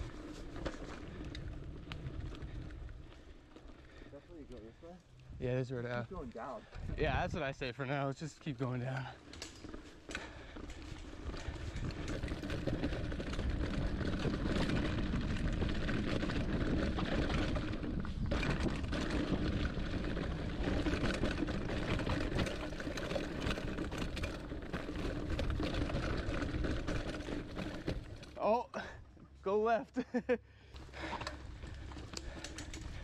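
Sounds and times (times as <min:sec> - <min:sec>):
bike tyres rumbling on dirt: 0:00.0 - 0:29.4, 0:30.8 - 0:33.0
bike rattling: 0:00.0 - 0:29.5, 0:30.1 - 0:33.0.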